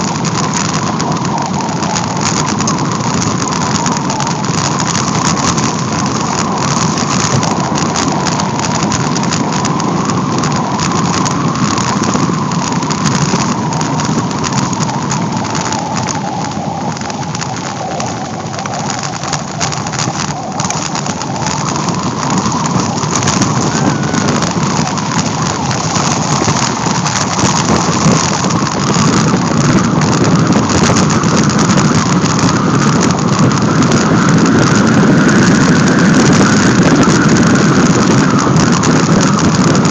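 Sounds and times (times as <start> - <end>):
bicycle tyres crunching on gravel: 0.0 - 39.9
wind on microphone: 0.0 - 39.9.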